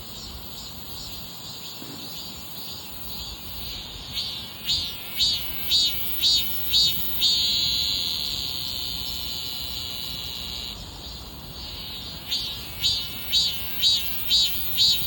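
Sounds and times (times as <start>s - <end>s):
cicada buzzing: 0.0s - 15.0s.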